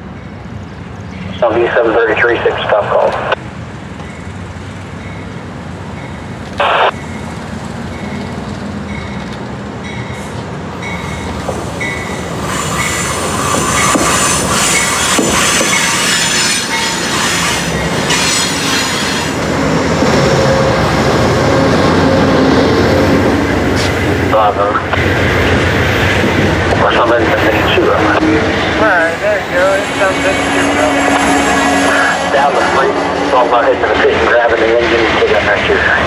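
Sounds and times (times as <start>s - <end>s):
passenger train rolling on rails: 0.0s - 36.0s.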